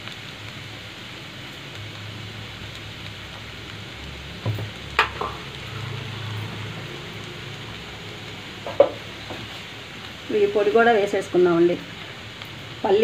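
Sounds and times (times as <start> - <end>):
cabbage sizzling in a pan: 0.0 - 13.0.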